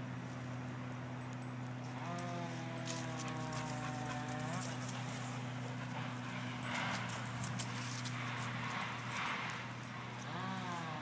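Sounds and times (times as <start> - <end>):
steady low hum: 0.0 - 11.0
dogs sniffing and panting: 0.3 - 11.0.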